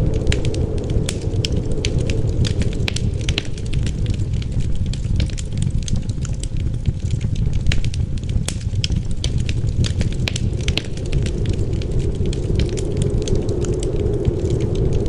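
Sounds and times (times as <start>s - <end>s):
low rumble of wind: 0.0s - 15.0s
wood fire crackling: 0.0s - 15.0s.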